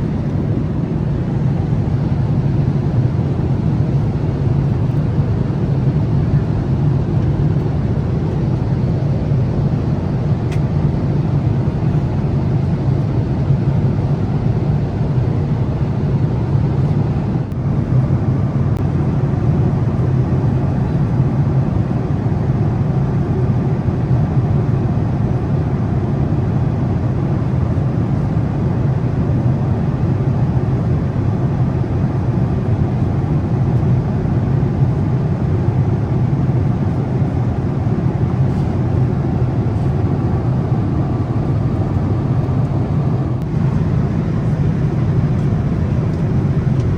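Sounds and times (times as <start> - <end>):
airliner cabin noise: 0.0 - 46.9.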